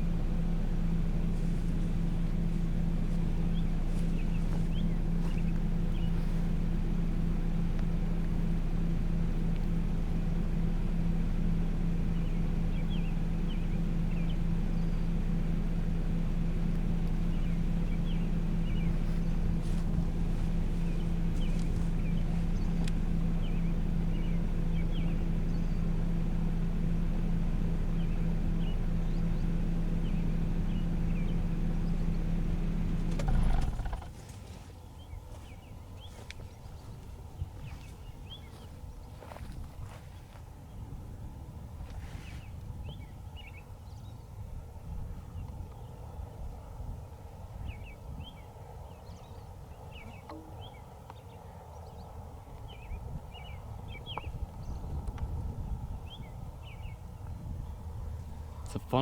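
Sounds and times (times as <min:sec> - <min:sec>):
vehicle hum: 0:00.0 - 0:59.0.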